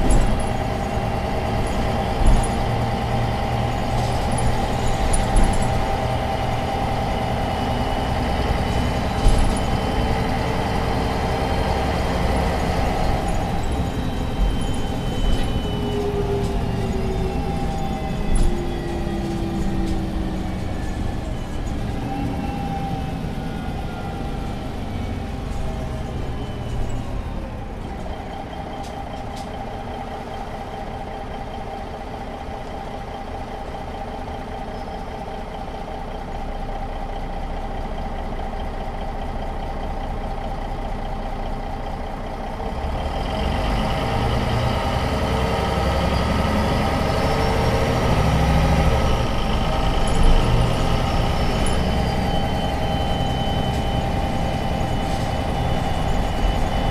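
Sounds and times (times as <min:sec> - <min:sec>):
bus diesel engine: 0:00.0 - 0:56.9
bus drive whine: 0:00.0 - 0:56.9.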